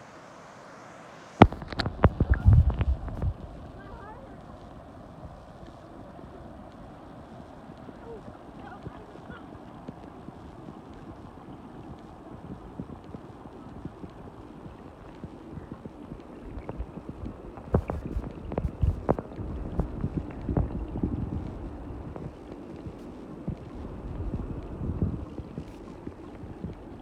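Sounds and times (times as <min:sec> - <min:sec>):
small underwater crackles and ticks: 0:01.4 - 0:27.0
underwater rumble of moving water: 0:01.4 - 0:27.0.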